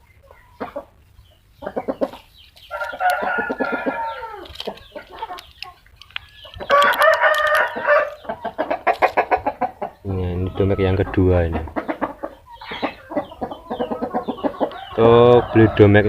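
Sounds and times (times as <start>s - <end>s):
chicken clucking: 0.0s - 16.0s
chicken long drawn-out calls: 0.0s - 16.0s.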